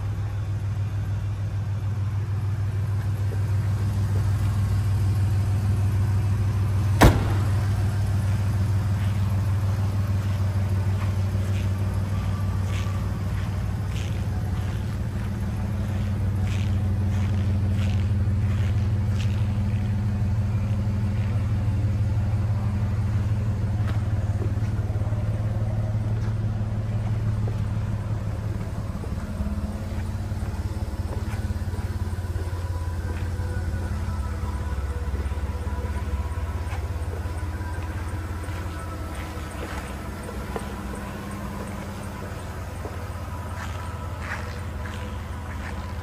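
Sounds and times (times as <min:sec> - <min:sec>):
pickup engine idling: 0:00.0 - 0:46.0.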